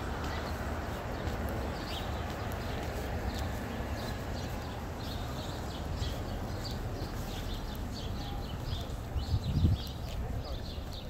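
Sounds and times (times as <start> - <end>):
low traffic rumble: 0.0 - 11.0
small birds chirping: 0.0 - 11.0.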